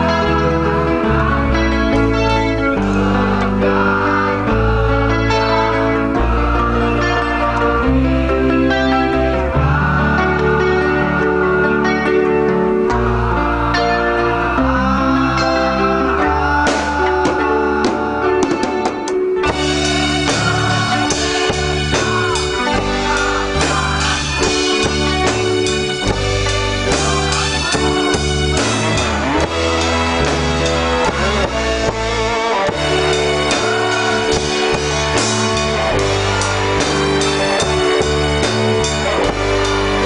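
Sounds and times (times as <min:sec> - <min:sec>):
instrumental band music: 0:00.0 - 0:40.0.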